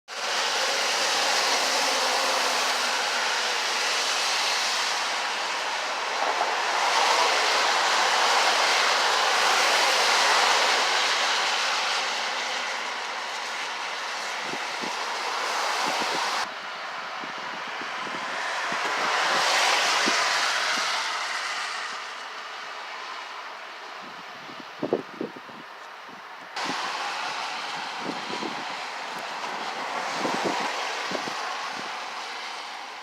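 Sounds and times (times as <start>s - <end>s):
blizzard wind blowing hard: 0.1s - 33.0s.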